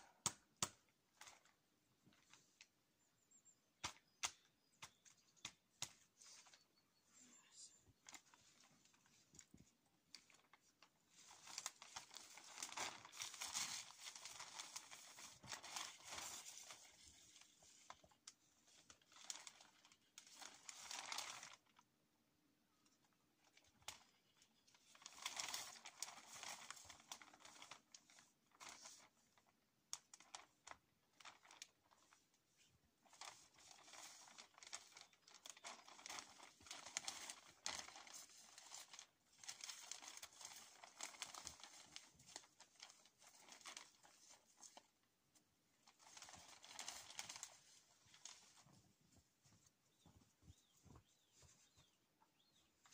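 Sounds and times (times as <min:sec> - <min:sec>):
plastic sheeting crinkling: 0:00.0 - 0:02.8, 0:03.8 - 0:06.7, 0:07.5 - 0:21.9, 0:22.9 - 0:52.9.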